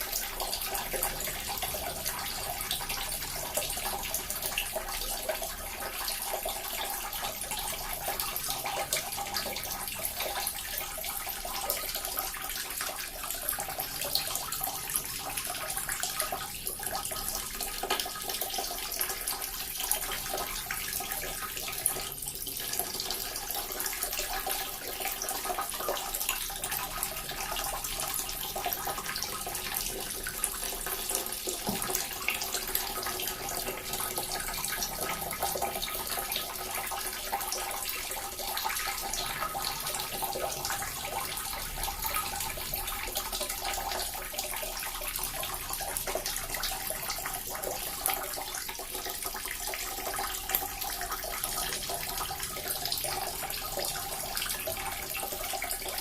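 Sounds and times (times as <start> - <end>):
water fountain trickling: 0.0 - 56.0.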